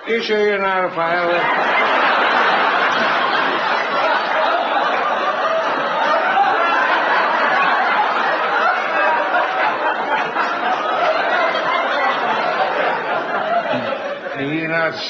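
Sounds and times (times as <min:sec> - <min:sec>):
audience laughing: 0:00.8 - 0:15.0.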